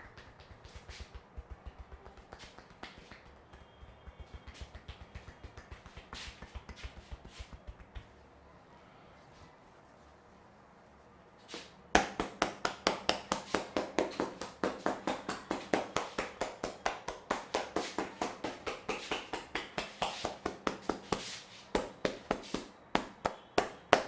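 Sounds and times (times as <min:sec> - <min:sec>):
hands tapping head in massage: 0:00.0 - 0:08.2, 0:11.5 - 0:24.0.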